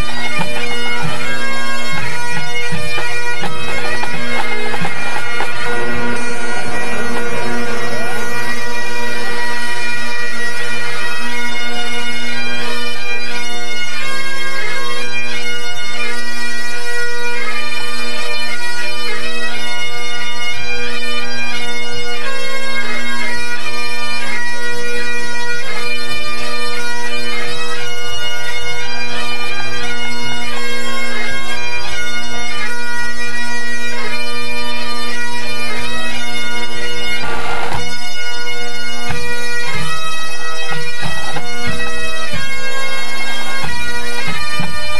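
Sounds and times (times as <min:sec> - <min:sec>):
bagpipes playing over drones: 0:00.0 - 0:44.9.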